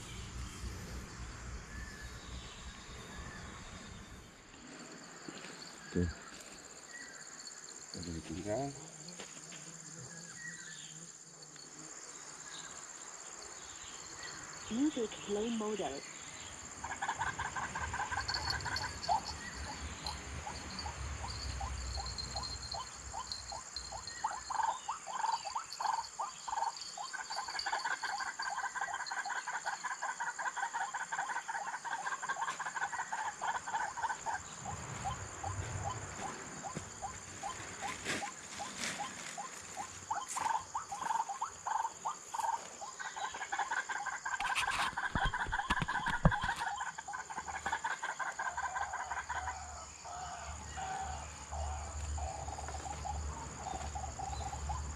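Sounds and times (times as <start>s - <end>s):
high insect drone: 0.0s - 54.9s.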